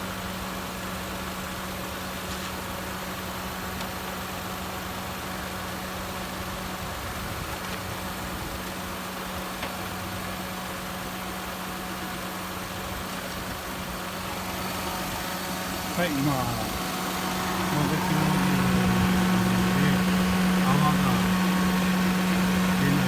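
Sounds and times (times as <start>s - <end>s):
air conditioner running: 0.0s - 23.0s
car engine idling: 0.0s - 23.0s.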